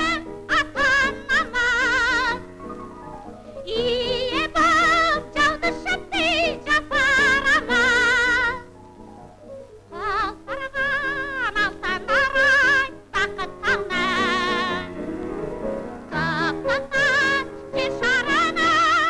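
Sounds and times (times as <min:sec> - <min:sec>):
soprano singing with vibrato: 0:00.0 - 0:15.0, 0:16.0 - 0:19.0
musical accompaniment: 0:00.0 - 0:19.0.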